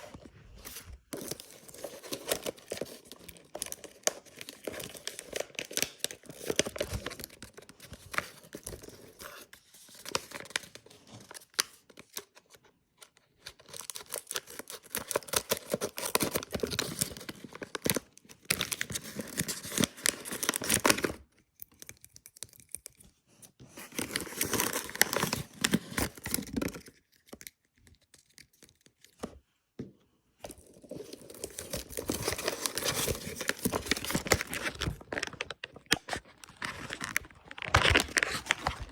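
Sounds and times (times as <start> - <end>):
paper packaging crinkling and tearing: 0.0 - 29.3, 30.5 - 38.9.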